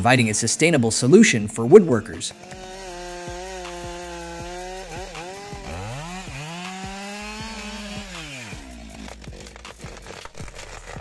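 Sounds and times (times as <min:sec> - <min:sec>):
chainsaw cutting tree trunk: 0:01.6 - 0:11.0.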